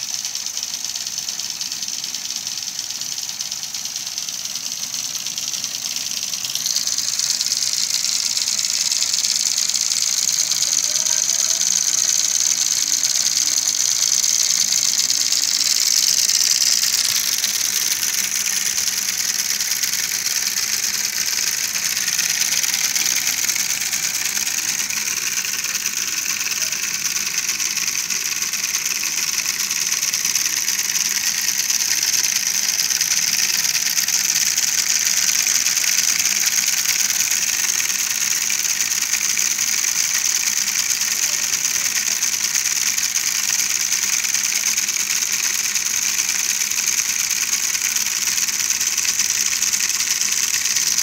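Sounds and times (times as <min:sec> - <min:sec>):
small electric motors whirring: 0:00.0 - 0:51.0.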